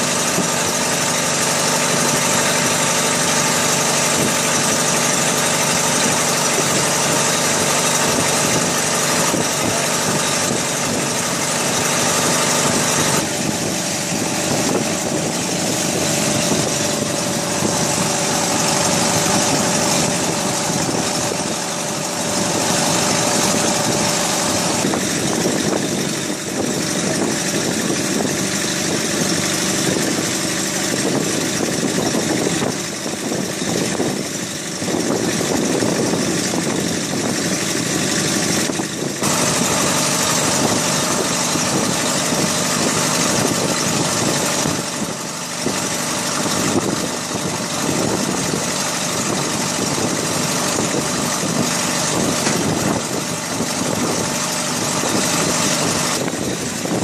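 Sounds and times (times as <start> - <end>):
boat engine running: 0.0 - 57.0
water rushing along hull: 0.0 - 57.0.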